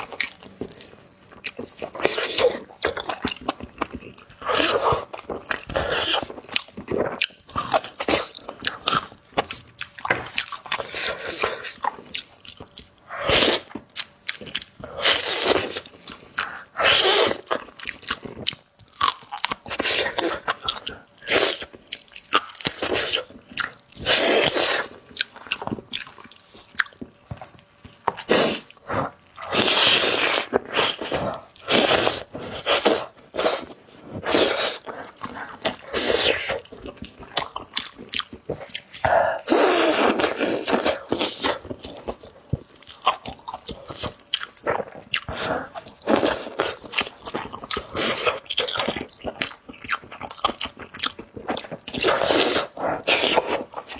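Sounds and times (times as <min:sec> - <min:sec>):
person biting and chewing: 0:00.0 - 0:53.9.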